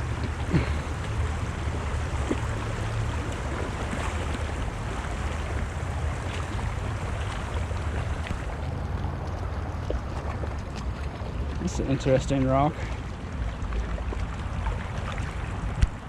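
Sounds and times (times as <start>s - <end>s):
creek water flowing: 0.0s - 16.0s
wind rumble on microphone: 0.0s - 16.0s.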